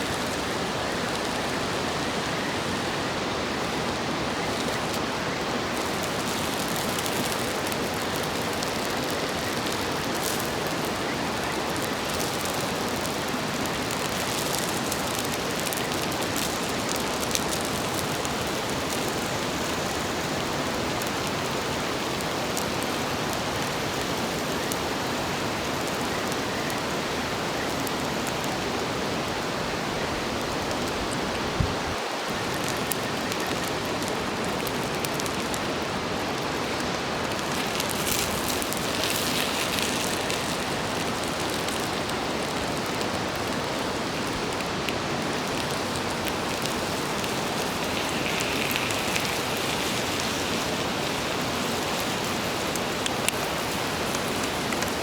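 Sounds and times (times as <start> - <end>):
food sizzling on griddle: 0.0 - 55.0.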